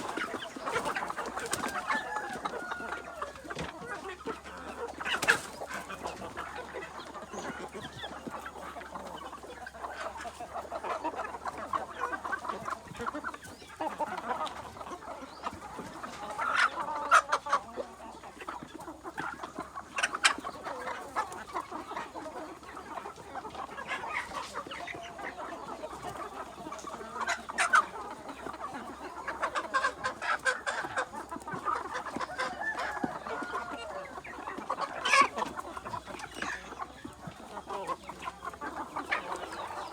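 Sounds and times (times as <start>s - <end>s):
chickens clucking: 0.0s - 39.9s
sharp chicken calls: 0.0s - 39.9s.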